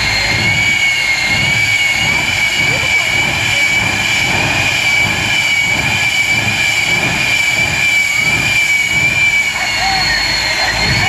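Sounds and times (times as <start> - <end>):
turbine engine high whine: 0.0 - 11.0.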